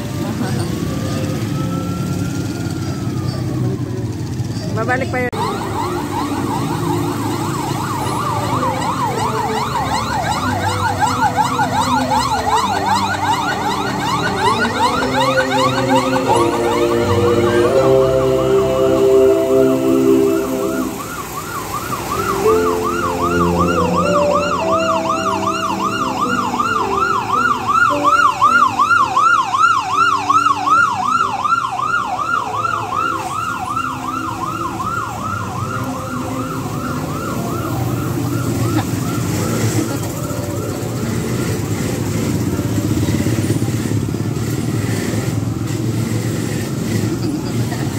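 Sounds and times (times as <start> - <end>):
siren yelping: 0.0 - 43.9
passing vehicle engines: 0.0 - 47.9.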